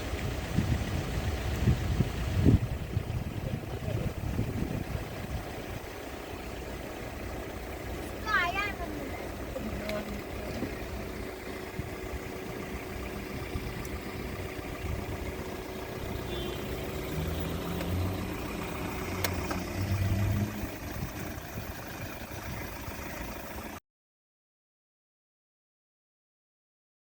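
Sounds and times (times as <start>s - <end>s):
car engine and road noise: 0.0s - 23.8s.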